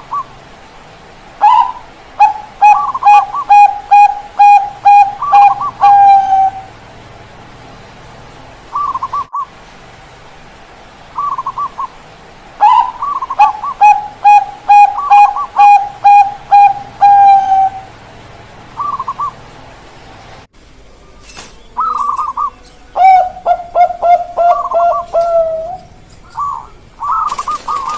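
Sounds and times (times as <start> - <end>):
doves cooing: 1.4 - 9.6, 11.2 - 12.0, 12.6 - 20.3, 20.9 - 27.9.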